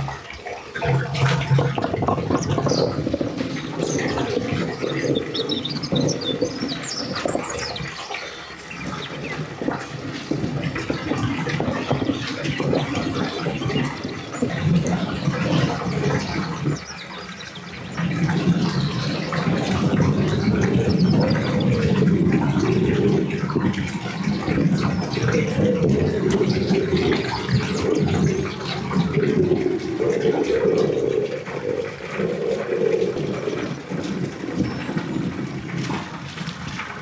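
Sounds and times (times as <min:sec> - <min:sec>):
birds chirping: 0:00.0 - 0:37.0
water running and splashing: 0:00.0 - 0:37.0.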